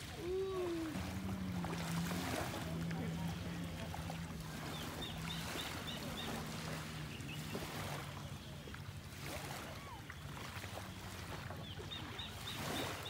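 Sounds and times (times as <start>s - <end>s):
low motor hum: 0.0s - 13.0s
small waves lapping: 0.0s - 13.0s.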